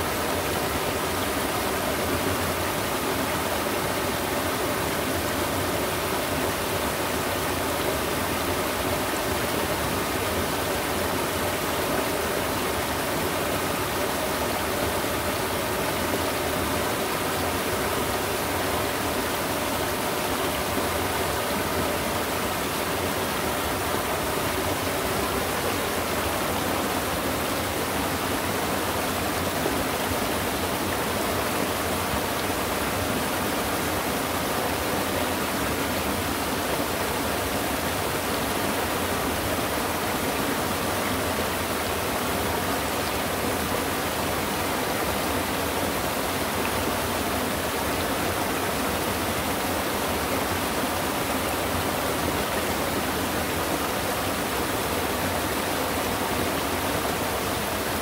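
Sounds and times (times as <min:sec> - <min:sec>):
small waterfall splashing: 0:00.0 - 0:58.0.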